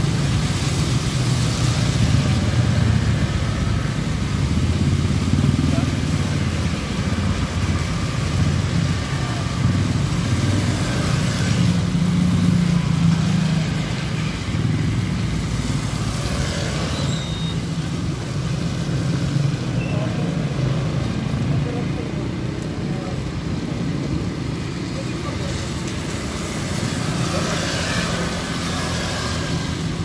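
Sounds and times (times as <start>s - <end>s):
tyre hiss on wet road: 0.0s - 21.4s, 24.2s - 30.0s.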